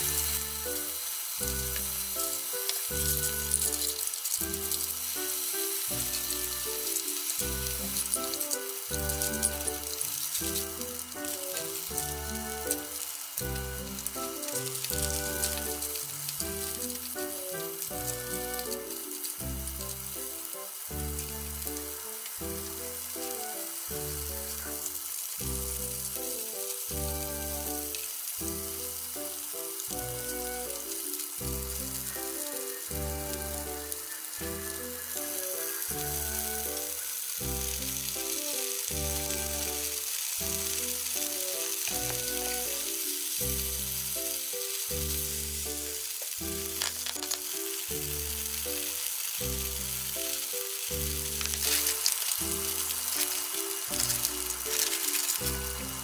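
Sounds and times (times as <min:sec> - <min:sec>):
food sizzling in frying pan: 0:00.0 - 0:56.0.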